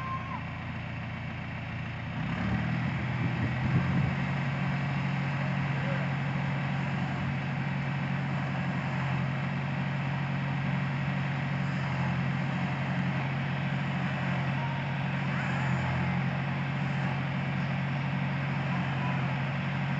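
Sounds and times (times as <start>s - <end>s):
backhoe loader engine running: 0.0s - 19.9s.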